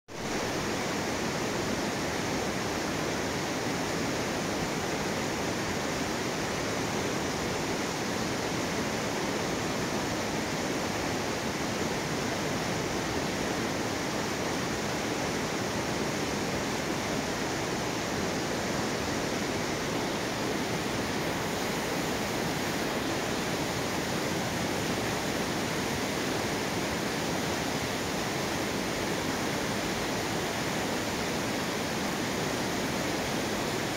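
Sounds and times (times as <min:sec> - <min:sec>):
river rushing over rocks: 0:00.1 - 0:33.9.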